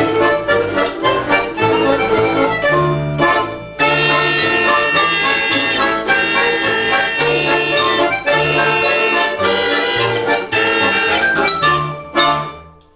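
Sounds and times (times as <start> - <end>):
folk ensemble with accordion chords: 0.0 - 12.9.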